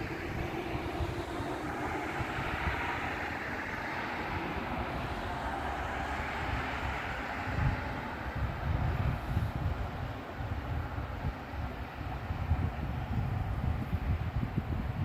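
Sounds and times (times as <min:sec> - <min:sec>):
jet engines running: 0:00.0 - 0:15.0
wind buffeting microphone: 0:00.0 - 0:15.0.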